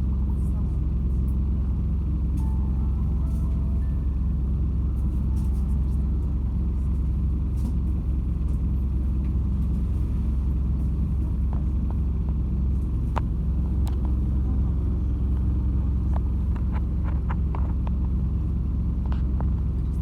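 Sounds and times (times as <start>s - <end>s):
bus engine low rumble: 0.0s - 20.0s.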